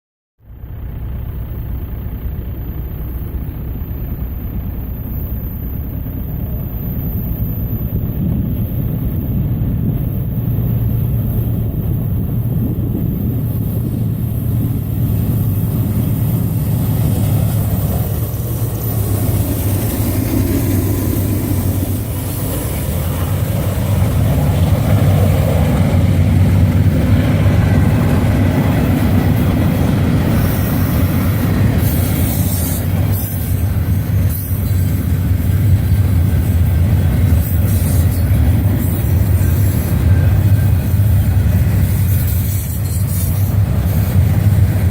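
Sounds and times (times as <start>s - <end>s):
diesel locomotive engine rumble: 0.4s - 44.9s
rail and wheel noise: 0.4s - 44.9s.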